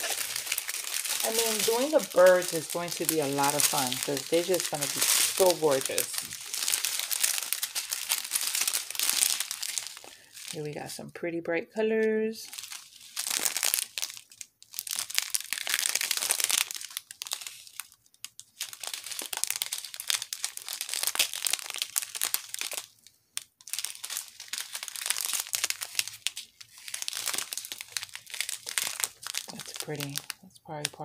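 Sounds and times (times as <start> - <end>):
plastic bags crinkling: 0.0 - 10.9, 12.4 - 31.0.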